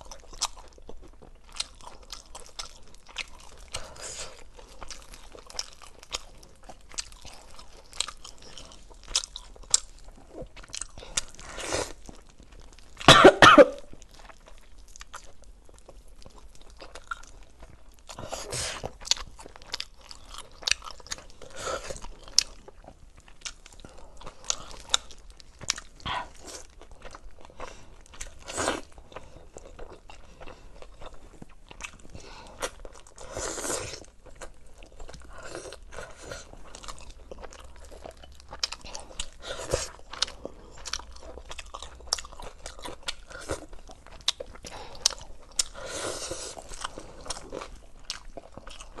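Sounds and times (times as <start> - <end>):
biting and chewing ribs: 0.0 - 13.3, 13.9 - 49.0.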